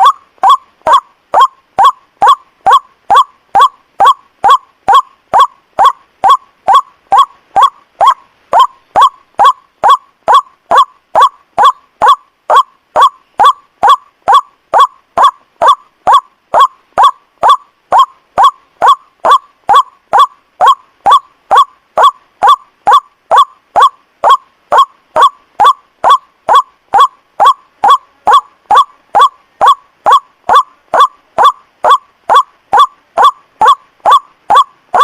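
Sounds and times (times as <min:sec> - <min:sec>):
bird call honking: 0:00.0 - 0:35.0.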